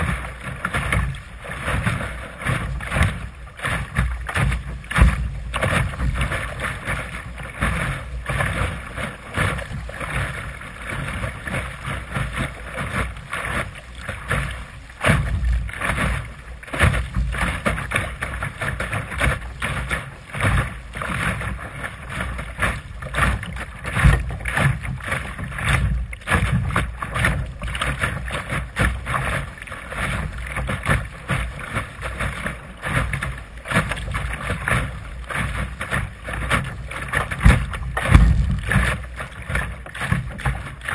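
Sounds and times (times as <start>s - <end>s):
water slapping against boat hull: 0.0s - 40.9s
wind rumble on microphone: 0.0s - 40.9s.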